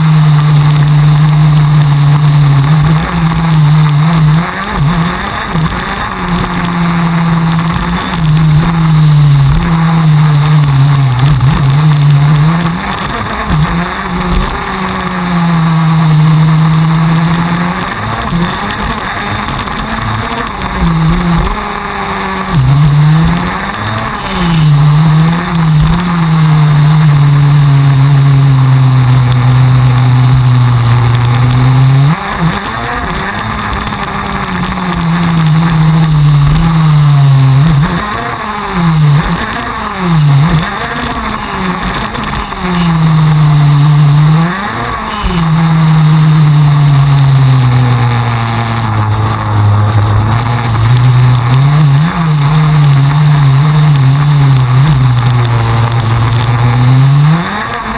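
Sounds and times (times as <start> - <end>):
kart engine revving: 0.0 - 57.9.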